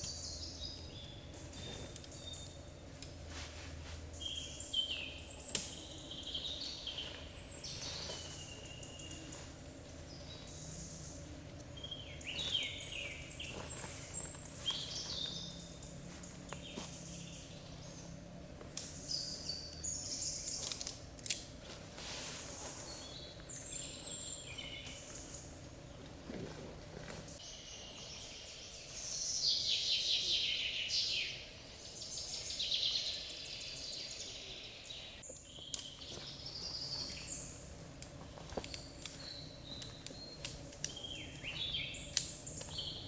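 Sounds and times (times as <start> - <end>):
birds chirping and whistling: 0.0 - 2.9, 4.1 - 20.9, 22.1 - 26.0, 27.0 - 43.0.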